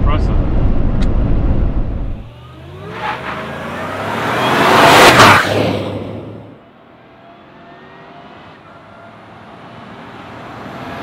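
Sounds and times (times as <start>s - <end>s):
car engine accelerating: 1.0s - 11.0s.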